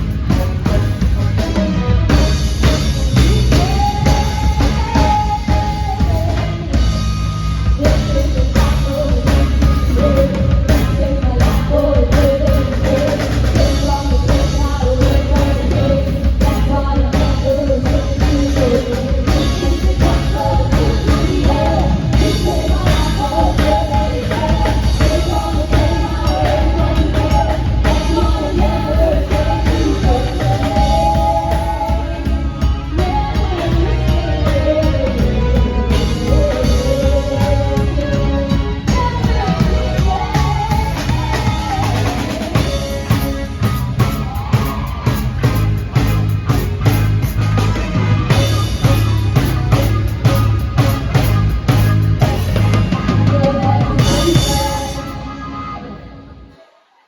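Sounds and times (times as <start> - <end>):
drum kit beat: 0.0 - 55.4
sung melody: 0.0 - 56.5.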